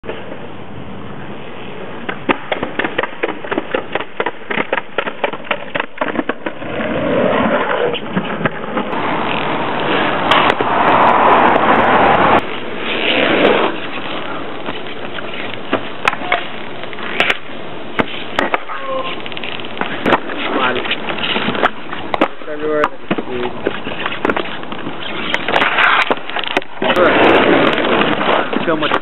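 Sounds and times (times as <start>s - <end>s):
wheels rolling on asphalt: 0.0s - 29.0s.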